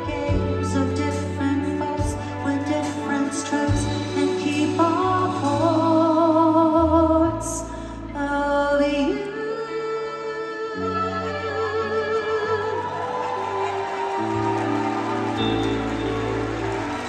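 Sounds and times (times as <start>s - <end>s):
woman singing with vibrato: 0.0s - 14.3s
live band playing a ballad: 0.0s - 17.0s.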